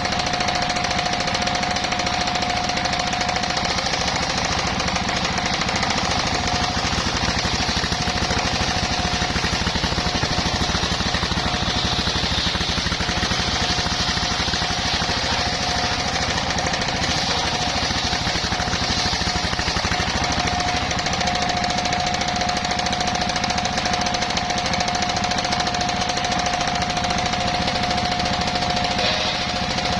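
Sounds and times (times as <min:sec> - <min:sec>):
sawmill engine chugging: 0:00.0 - 0:29.9.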